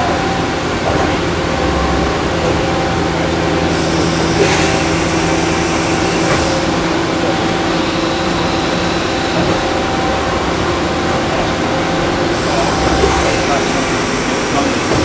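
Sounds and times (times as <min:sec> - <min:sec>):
machine hum with steady tones: 0:00.0 - 0:15.0
high hiss rush: 0:02.7 - 0:15.0.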